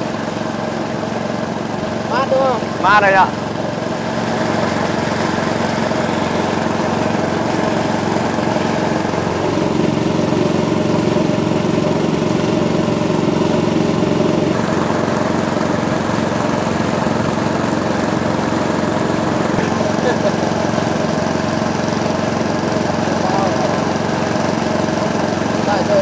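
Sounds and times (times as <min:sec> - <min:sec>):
motor boat engine running: 0:00.0 - 0:26.0.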